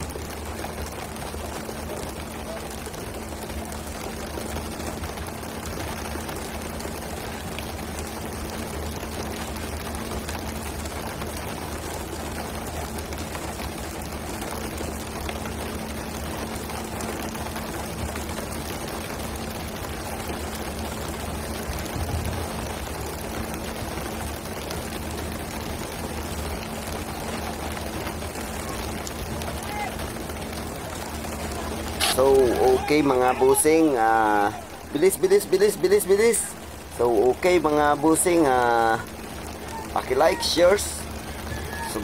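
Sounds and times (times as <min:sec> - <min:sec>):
boat engine hum: 0:00.0 - 0:42.0
water splashing and spraying: 0:00.0 - 0:42.0.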